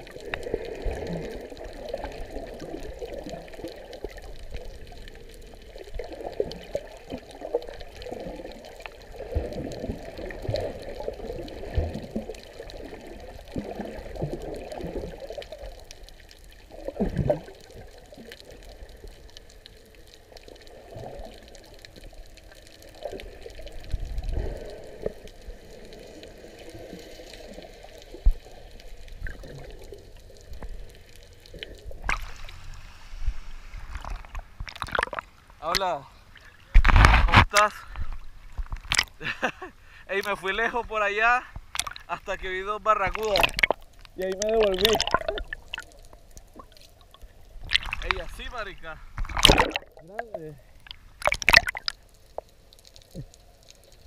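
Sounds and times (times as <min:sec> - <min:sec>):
muffled underwater water sloshing: 0:00.0 - 0:54.0.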